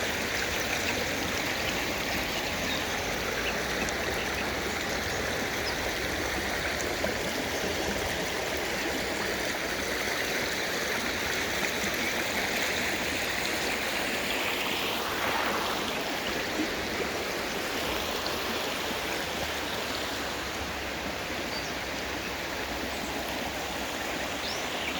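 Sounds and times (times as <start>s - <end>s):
stream of water running: 0.0s - 24.9s.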